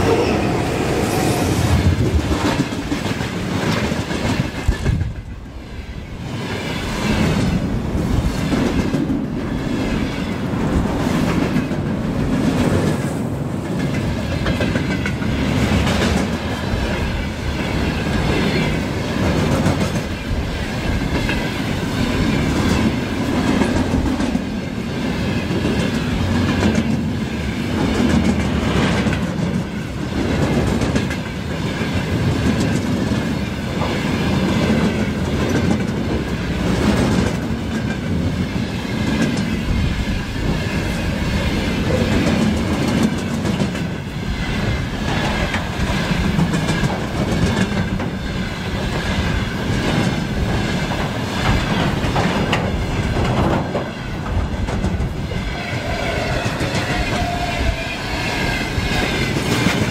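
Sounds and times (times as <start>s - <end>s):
train wheels clattering over joints: 6.3s - 59.9s.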